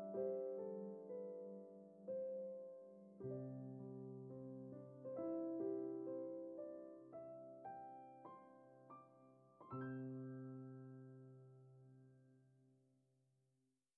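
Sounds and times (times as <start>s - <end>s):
soft slow piano music: 0.0s - 12.8s.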